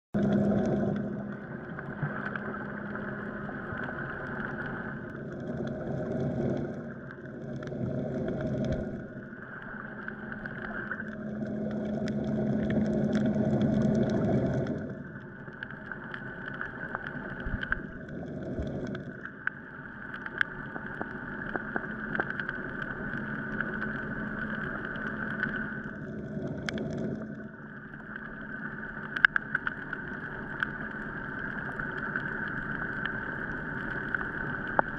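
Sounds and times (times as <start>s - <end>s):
underwater motor hum: 0.2s - 34.9s.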